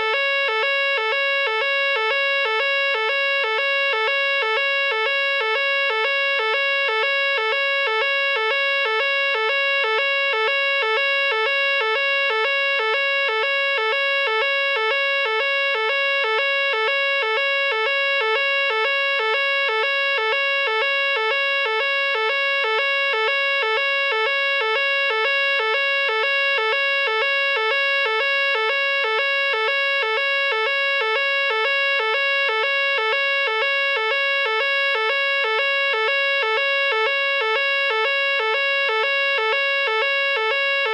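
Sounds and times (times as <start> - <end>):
pulsing fire alarm tone: 0.0 - 40.9.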